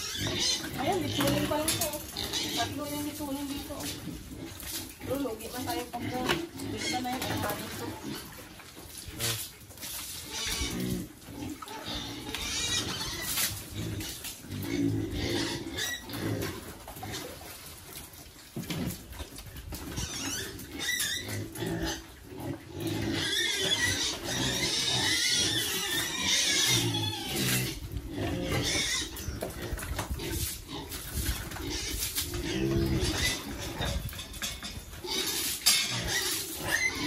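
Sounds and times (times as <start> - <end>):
pigs squealing: 0.0 - 17.6, 19.7 - 37.0
pigs grunting: 0.0 - 37.0.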